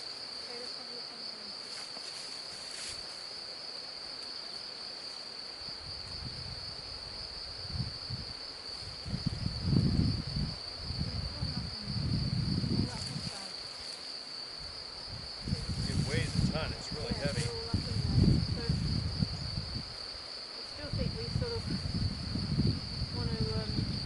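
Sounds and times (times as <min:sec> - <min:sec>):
high-pitched insect trill: 0:00.0 - 0:24.0.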